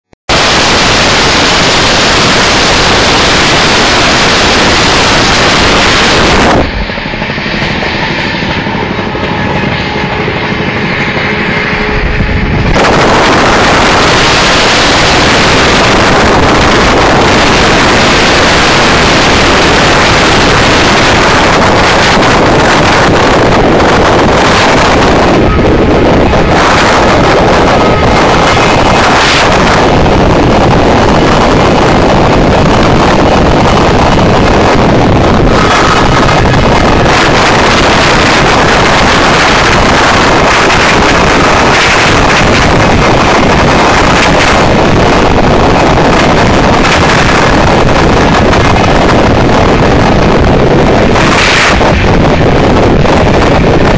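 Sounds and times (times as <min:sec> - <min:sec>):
train running noise: 0:00.0 - 0:53.9
wind rush on microphone: 0:00.0 - 0:53.9.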